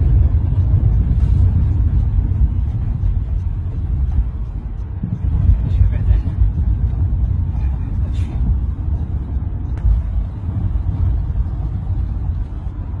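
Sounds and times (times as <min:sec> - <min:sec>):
car engine and tyres rumbling: 0:00.0 - 0:13.0
faint ticks: 0:00.0 - 0:13.0.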